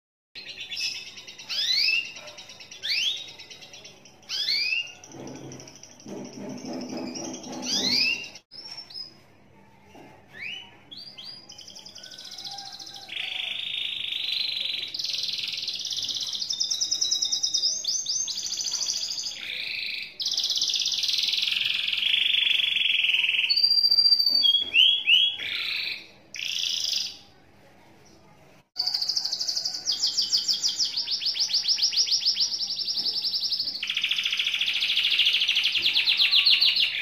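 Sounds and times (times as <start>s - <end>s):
canary singing trills and whistles: 0.4s - 9.2s, 10.4s - 27.3s, 28.8s - 37.0s.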